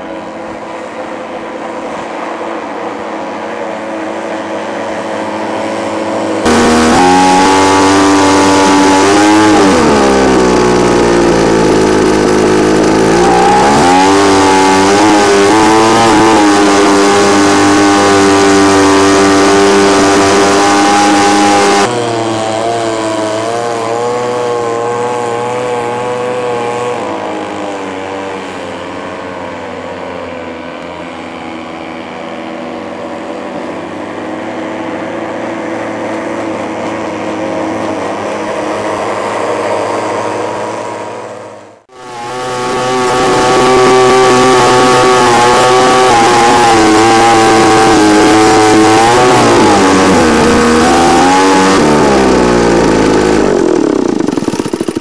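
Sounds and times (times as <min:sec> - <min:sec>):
model speedboat engines racing: 0:00.0 - 0:55.0.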